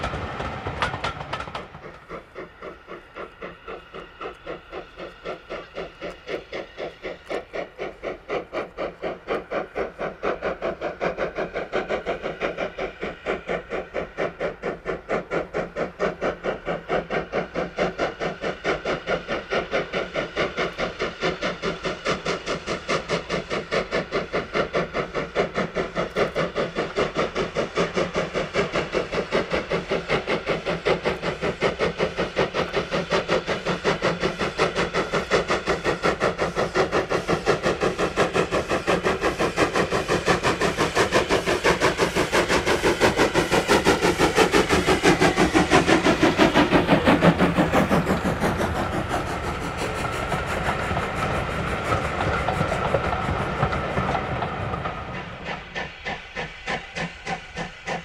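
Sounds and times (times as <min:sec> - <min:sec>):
steam locomotive exhaust beats: 0:00.0 - 0:58.0
train wheels rolling on rails: 0:00.0 - 0:58.0.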